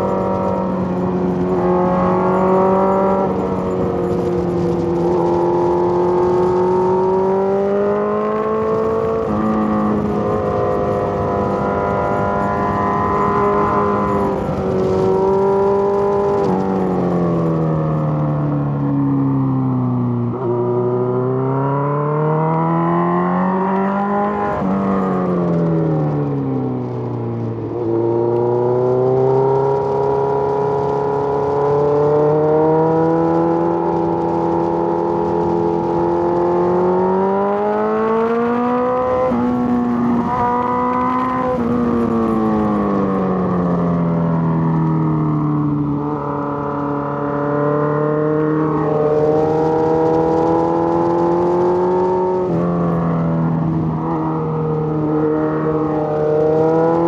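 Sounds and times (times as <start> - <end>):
motorcycle engine revving: 0.0 - 18.9, 19.6 - 57.0.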